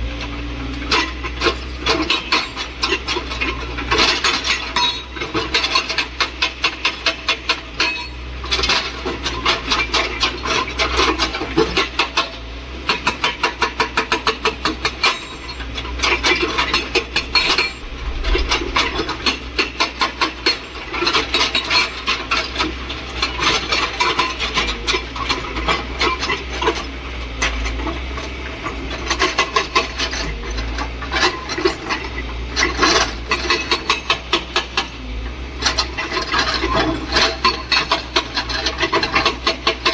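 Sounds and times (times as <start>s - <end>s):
diesel engine drone: 0.0s - 39.9s
hydraulic rock breaker hammering: 0.8s - 39.9s.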